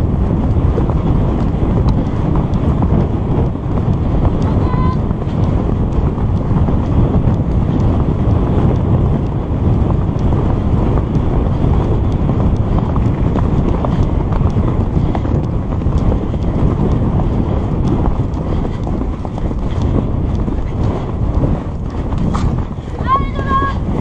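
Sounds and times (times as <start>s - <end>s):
horses' hooves drumming on dirt: 0.0s - 24.0s
wind buffeting microphone: 0.0s - 24.0s.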